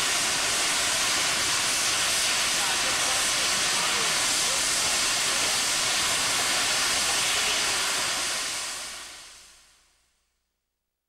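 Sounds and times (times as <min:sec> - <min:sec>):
steam locomotive hissing: 0:00.0 - 0:09.6.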